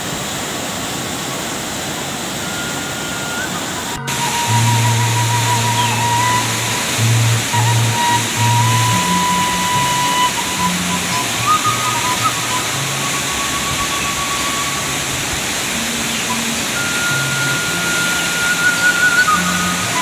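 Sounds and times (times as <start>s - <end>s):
waterfall roaring: 0.0s - 20.0s
thin high melody: 2.4s - 20.0s.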